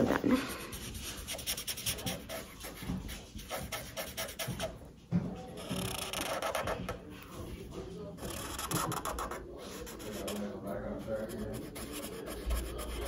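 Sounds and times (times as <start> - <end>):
marker scratching on paper: 0.0 - 4.8, 5.6 - 7.3, 8.2 - 13.0.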